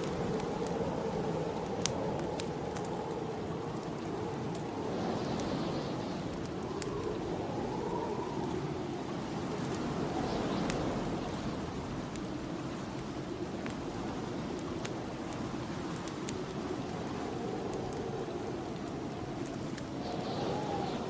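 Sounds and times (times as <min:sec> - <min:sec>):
snowstorm wind rushing: 0:00.0 - 0:21.0
wood fire crackling: 0:00.0 - 0:21.0.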